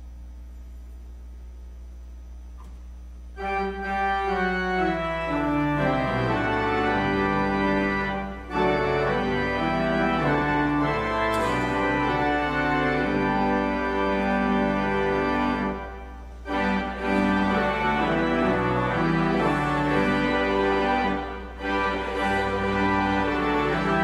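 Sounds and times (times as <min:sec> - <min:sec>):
church organ playing chords: 0:03.3 - 0:24.0.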